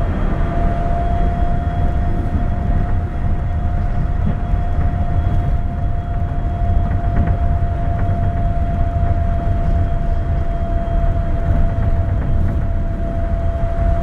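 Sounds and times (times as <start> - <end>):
train running with motor whine: 0.0 - 14.0.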